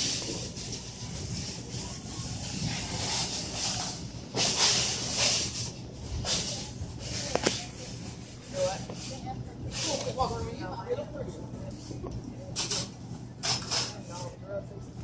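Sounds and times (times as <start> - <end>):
store background hum: 0.0 - 15.0.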